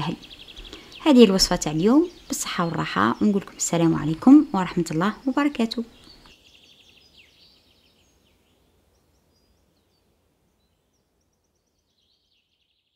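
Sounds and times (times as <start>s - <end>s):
faint bird chirps: 0.0s - 12.9s.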